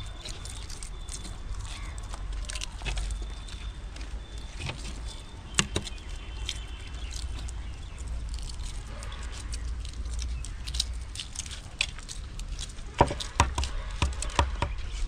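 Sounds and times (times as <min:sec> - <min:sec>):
eggshells crackling: 0:00.0 - 0:15.0.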